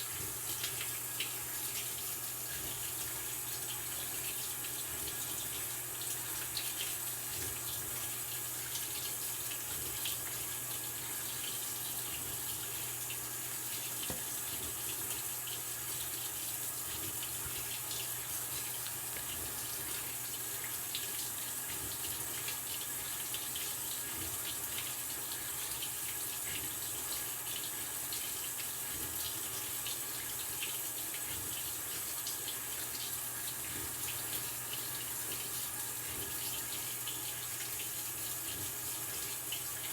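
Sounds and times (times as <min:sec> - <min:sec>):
water rushing into washing machine: 0:00.0 - 0:39.9.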